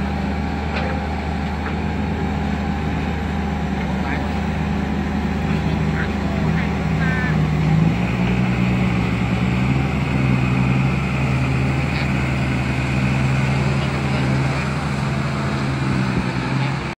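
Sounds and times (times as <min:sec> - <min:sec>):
heavy diesel engine running: 0:00.0 - 0:16.9.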